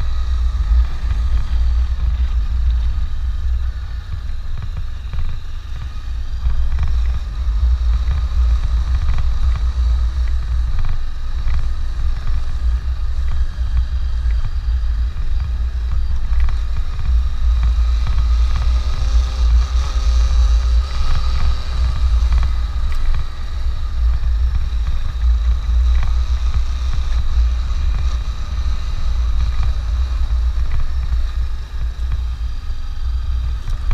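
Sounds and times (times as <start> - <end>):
motorcycle engine running: 0.0 - 33.9
wind buffeting microphone: 0.0 - 33.9.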